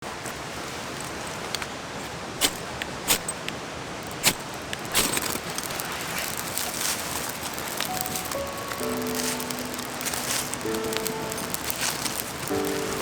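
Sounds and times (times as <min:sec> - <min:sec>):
stream rushing: 0:00.0 - 0:13.0
wood fire crackling: 0:00.0 - 0:13.0
loud fire pops: 0:02.4 - 0:13.0.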